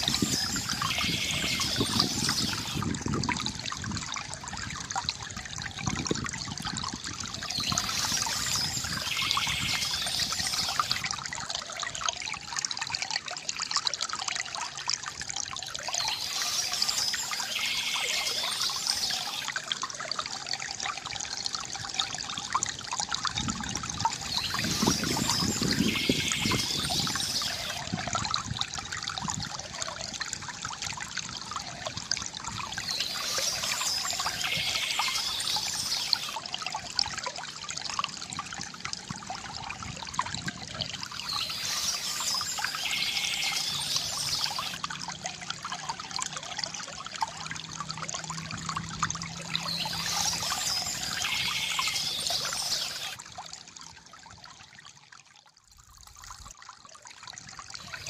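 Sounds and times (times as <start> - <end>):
water trickling from bamboo fountain: 0.0 - 58.0.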